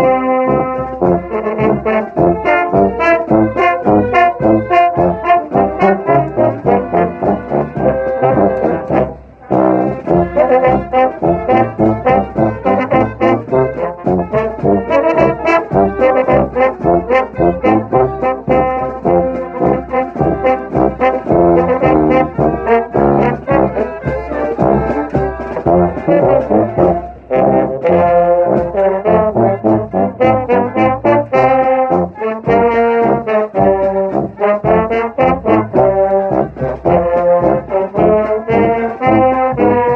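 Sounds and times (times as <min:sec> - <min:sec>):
brass pep band playing: 0:00.0 - 0:39.9.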